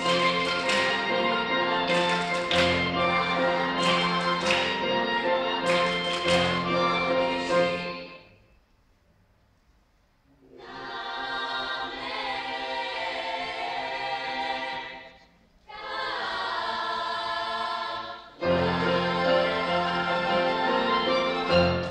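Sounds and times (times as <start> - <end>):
youth choir singing held chords: 0.0 - 8.3, 10.5 - 21.9.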